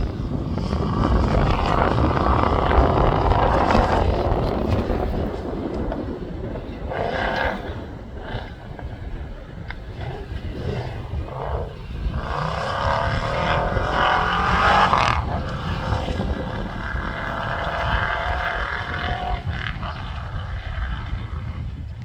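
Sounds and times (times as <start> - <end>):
off-road car engine revving: 0.0 - 22.0
steady low rumble: 0.0 - 22.0.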